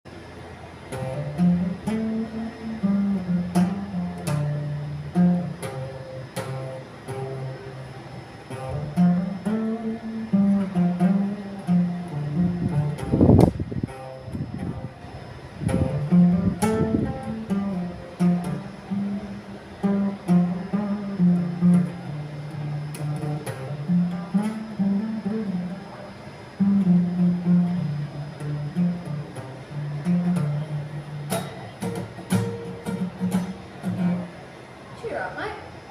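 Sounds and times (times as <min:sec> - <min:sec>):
guitar notes and chords: 0:00.1 - 0:35.0.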